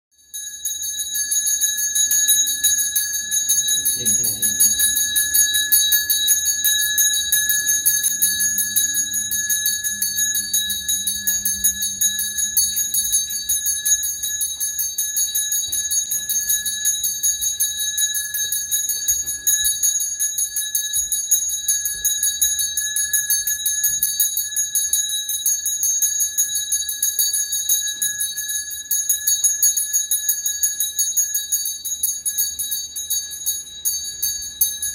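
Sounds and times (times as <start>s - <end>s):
handbell ringing rapidly: 0.2s - 34.9s.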